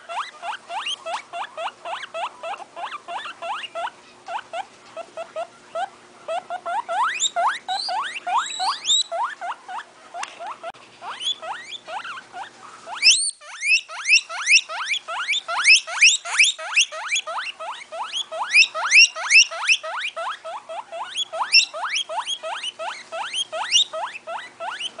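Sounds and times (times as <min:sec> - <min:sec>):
guinea pigs squealing: 0:00.0 - 0:25.0.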